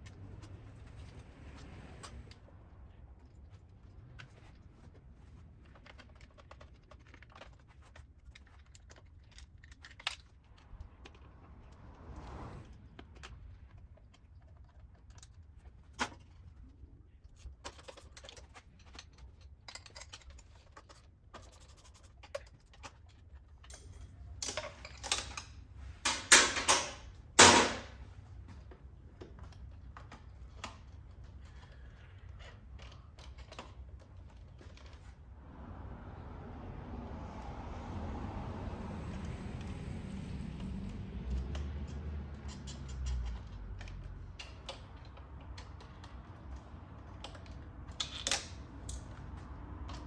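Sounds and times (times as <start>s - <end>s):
parts clattering and rattling: 0.0s - 11.9s, 12.9s - 35.4s, 40.4s - 50.0s
small hard parts clicking: 0.0s - 11.9s, 12.9s - 28.0s, 29.2s - 35.1s, 39.1s - 50.0s.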